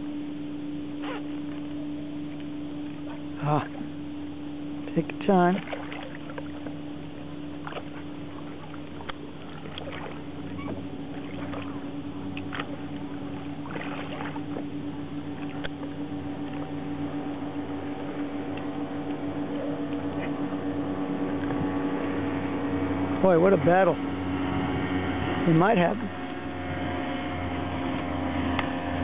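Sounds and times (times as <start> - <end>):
boat motor humming: 0.0 - 29.0.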